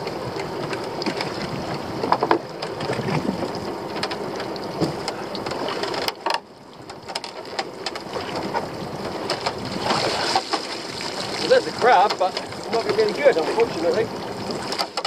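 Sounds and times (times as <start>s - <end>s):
sea noise: 0.0s - 15.0s
water splashing and dripping: 0.0s - 15.0s
wind: 0.0s - 15.0s.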